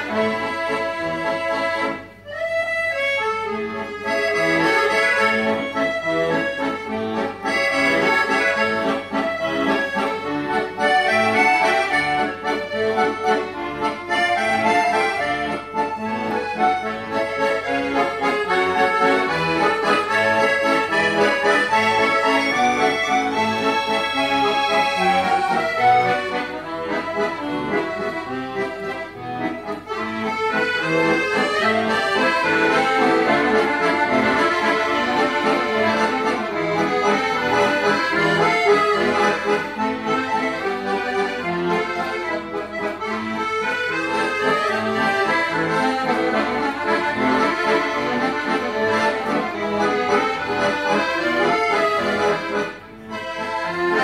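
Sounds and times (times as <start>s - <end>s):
accordion ensemble playing: 0.0s - 54.0s.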